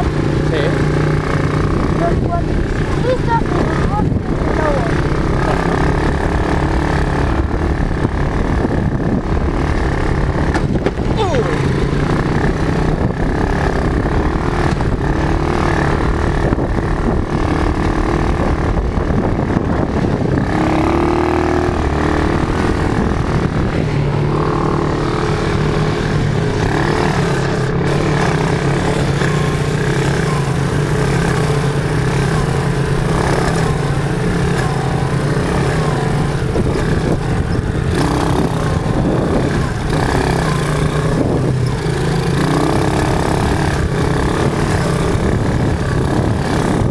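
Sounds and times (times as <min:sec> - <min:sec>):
quad bike engine running: 0:00.0 - 0:46.9.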